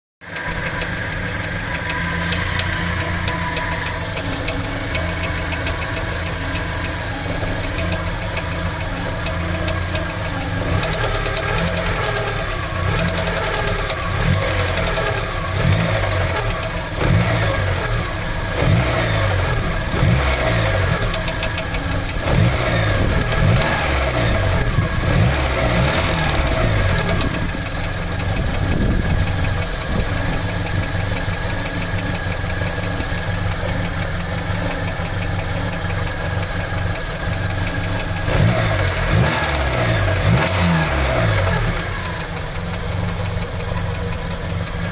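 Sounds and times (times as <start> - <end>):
car engine knocking and revving: 0.2 - 44.9.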